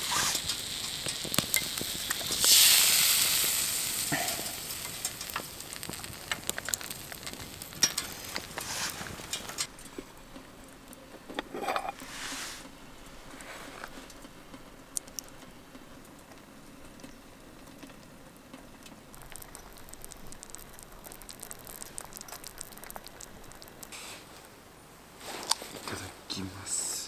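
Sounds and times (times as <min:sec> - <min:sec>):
food crackling in a pan: 0:00.0 - 0:24.4.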